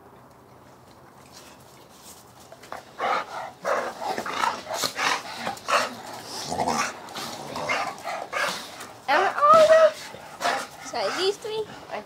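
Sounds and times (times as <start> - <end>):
dogs play-fighting: 0.7 - 12.0.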